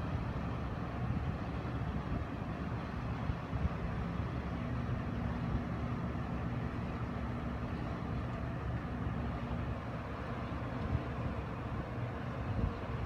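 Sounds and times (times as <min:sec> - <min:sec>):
ship engine rumble: 0:00.0 - 0:13.0
steady hum: 0:00.0 - 0:13.0.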